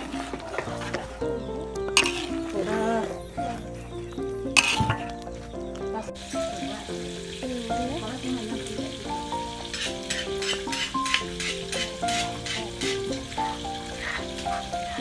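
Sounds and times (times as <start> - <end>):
background music: 0.0 - 15.0
pot bubbling and sizzling: 0.0 - 15.0.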